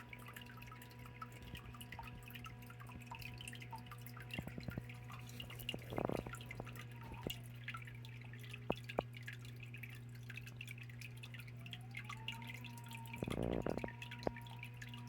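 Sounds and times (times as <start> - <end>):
low hum: 0.0 - 15.0
sharp drips: 0.0 - 15.0
water trickling and dripping: 0.0 - 15.0.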